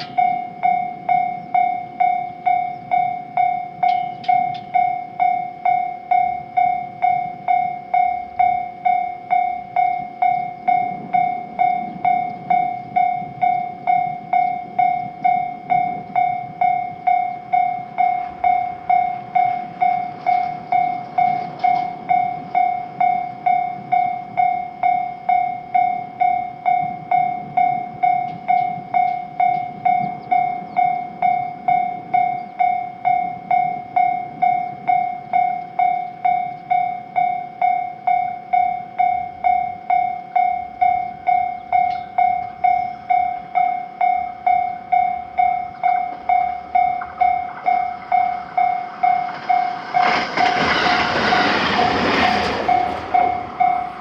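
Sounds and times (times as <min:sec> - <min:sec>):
railroad crossing warning bell: 0:00.0 - 0:54.0
train rumbling past: 0:00.0 - 0:54.0.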